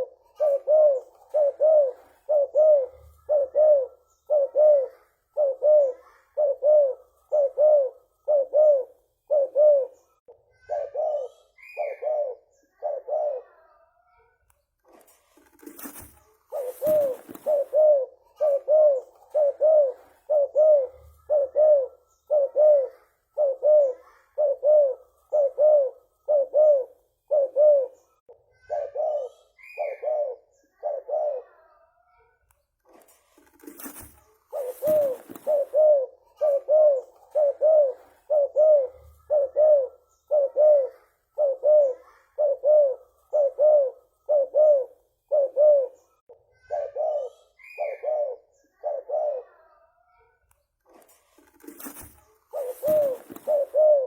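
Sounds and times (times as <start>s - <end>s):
dove cooing: 0.0s - 13.8s, 15.4s - 31.9s, 33.0s - 50.0s, 50.9s - 54.0s.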